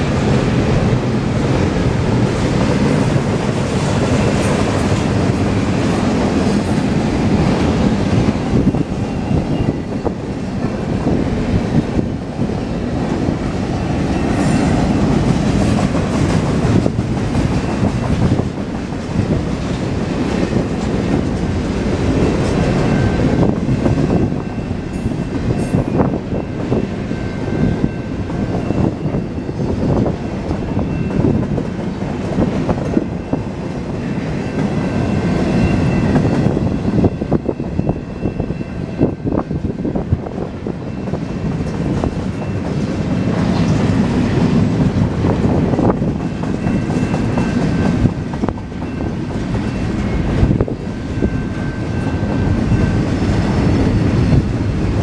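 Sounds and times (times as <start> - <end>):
train cars rumbling: 0.0 - 55.0.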